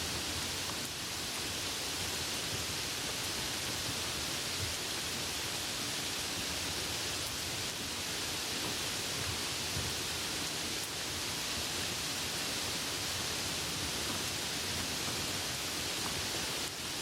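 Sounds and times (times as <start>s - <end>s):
soft rain falling: 0.0s - 17.0s.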